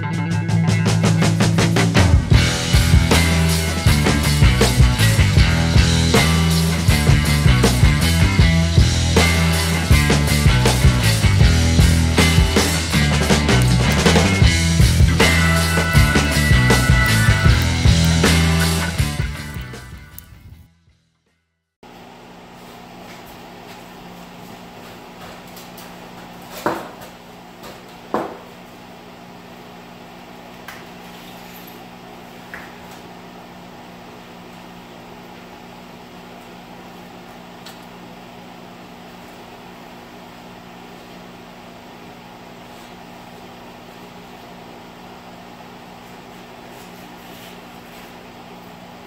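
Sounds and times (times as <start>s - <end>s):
air filter fan humming: 0.0s - 20.6s, 21.8s - 49.0s.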